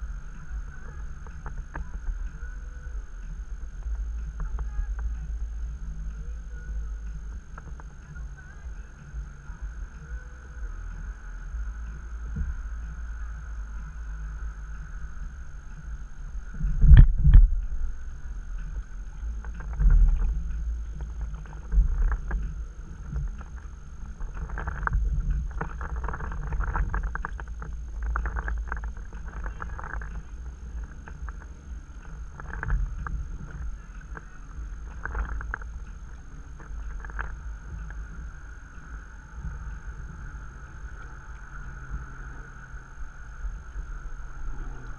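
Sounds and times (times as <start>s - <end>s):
wind rumble on microphone: 0.0s - 44.9s.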